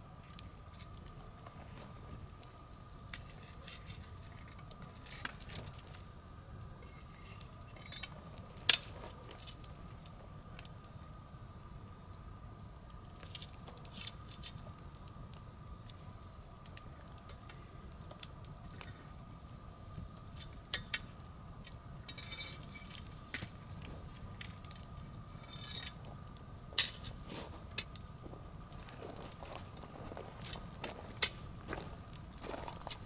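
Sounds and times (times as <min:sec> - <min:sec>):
hissing flares: 0:00.0 - 0:33.0
wood bonfire crackling: 0:00.0 - 0:33.0.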